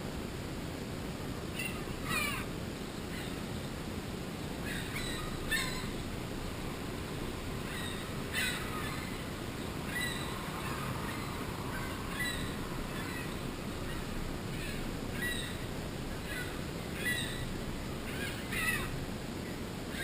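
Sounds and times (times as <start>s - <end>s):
low rushing background: 0.0s - 20.0s
seagulls calling: 1.5s - 2.5s, 4.6s - 20.0s.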